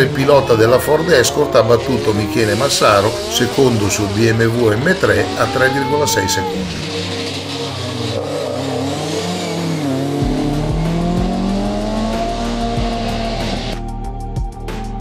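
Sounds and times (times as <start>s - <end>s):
race car engine accelerating: 0.0s - 13.9s
background music with steady beat: 0.0s - 15.0s.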